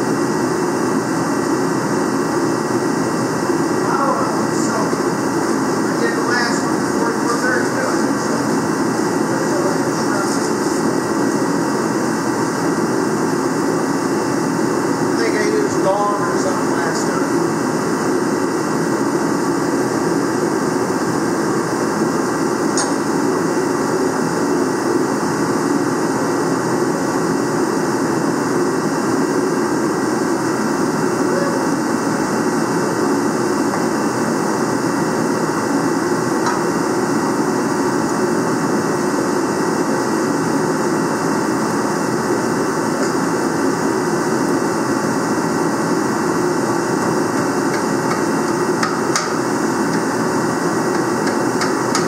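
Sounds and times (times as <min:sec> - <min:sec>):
loud machine drone: 0:00.0 - 0:52.0.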